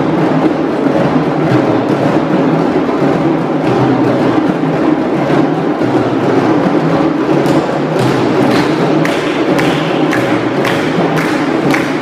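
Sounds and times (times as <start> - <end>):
djembe drums playing: 0.0 - 12.0.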